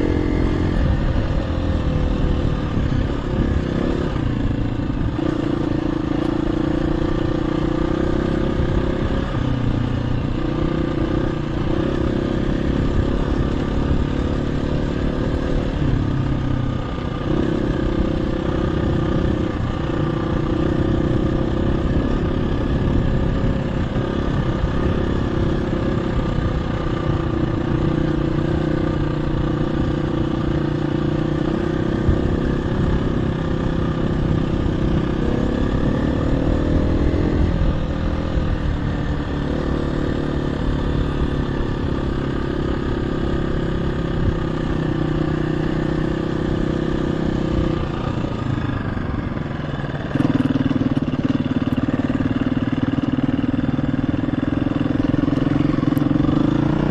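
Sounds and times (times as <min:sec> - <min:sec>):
dirt bike engine: 0:00.0 - 0:56.9.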